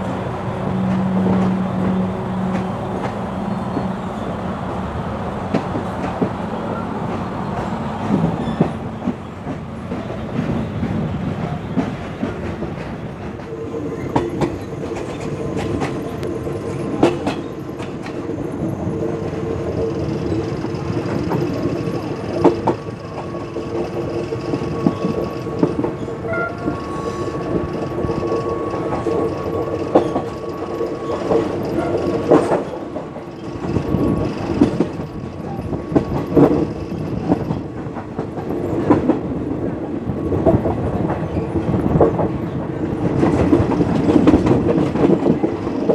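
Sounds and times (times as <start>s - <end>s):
train rumbling drone: 0.0s - 45.9s
train wheels clacking over rail joints: 7.1s - 45.9s.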